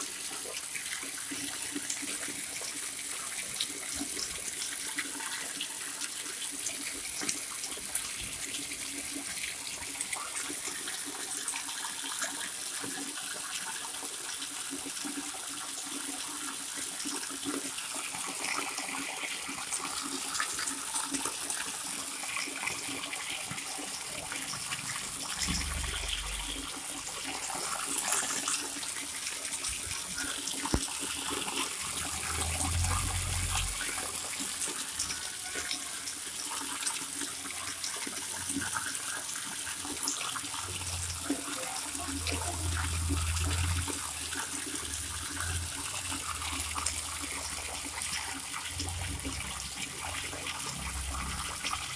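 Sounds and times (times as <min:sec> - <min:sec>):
water pouring and splashing: 0:00.0 - 0:51.9.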